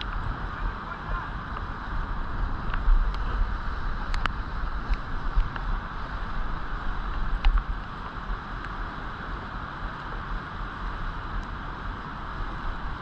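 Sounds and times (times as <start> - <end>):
river current rushing: 0.0 - 13.0
wind buffeting microphone: 0.0 - 13.0.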